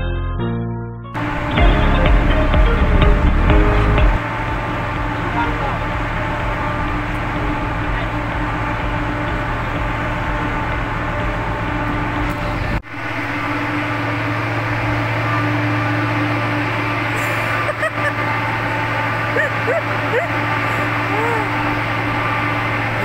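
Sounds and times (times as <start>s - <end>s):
ship engines droning: 1.2s - 23.0s.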